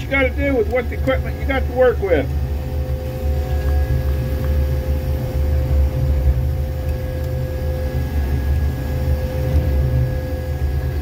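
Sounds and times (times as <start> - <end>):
steady mechanical whine: 0.0 - 11.0
track machine engine drone: 0.0 - 11.0.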